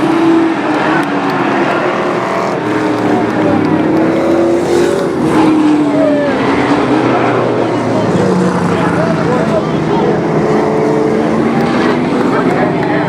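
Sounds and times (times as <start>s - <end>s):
race truck engines passing: 0.0s - 13.0s.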